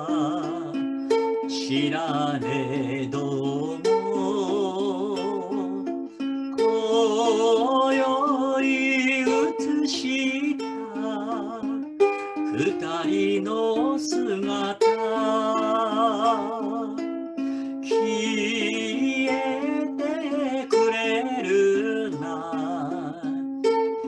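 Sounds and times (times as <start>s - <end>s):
ukulele ballad with vibrato: 0.0s - 24.0s.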